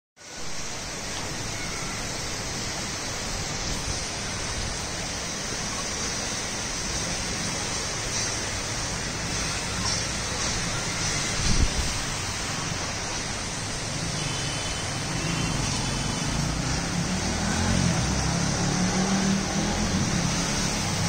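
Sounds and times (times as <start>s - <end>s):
heavy rain falling: 0.2s - 21.0s.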